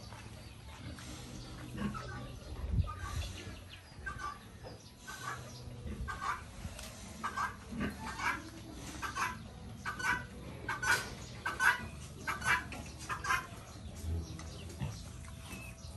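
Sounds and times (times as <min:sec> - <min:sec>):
chicken clucking: 0:00.0 - 0:15.9.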